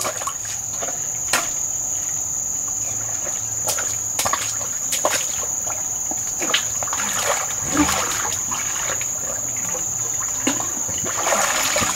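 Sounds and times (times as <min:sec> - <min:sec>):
splashes of water wading: 0:00.0 - 0:01.6, 0:03.1 - 0:11.9.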